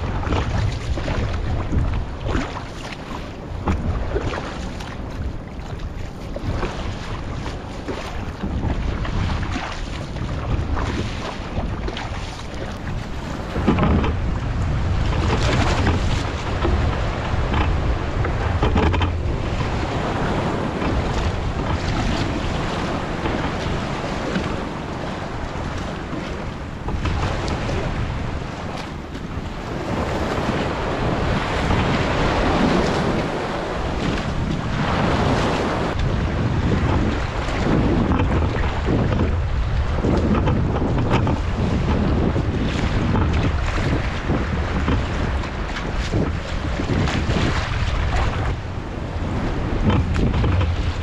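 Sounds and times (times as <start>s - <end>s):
sea waves: 0.0s - 51.0s
water splashing against boat: 0.0s - 51.0s
wind buffeting microphone: 0.0s - 51.0s.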